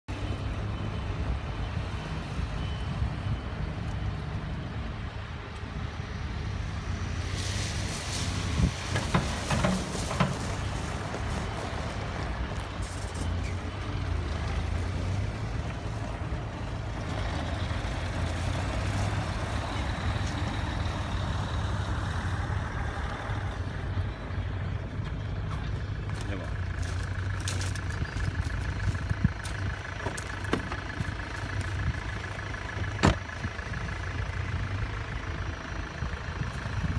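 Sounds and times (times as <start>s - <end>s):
diesel machinery rumbling: 0.1s - 36.9s.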